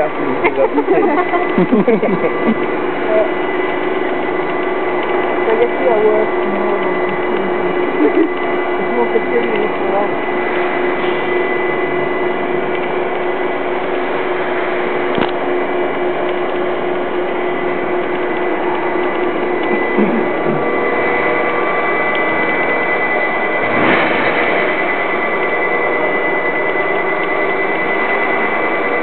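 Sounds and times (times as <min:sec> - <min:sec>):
hoist motor humming and whining: 0:00.0 - 0:29.0.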